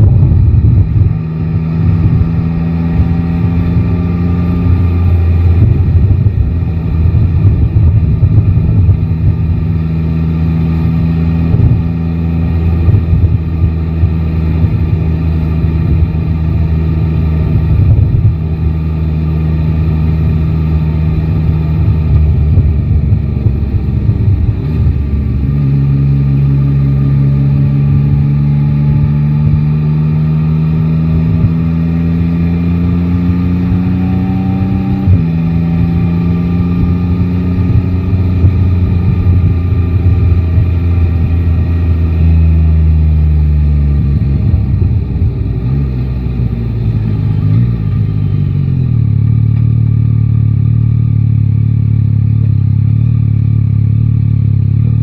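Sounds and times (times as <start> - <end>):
wind rumble on microphone: 0.0 - 49.0
motorcycle engine accelerating: 0.0 - 55.0.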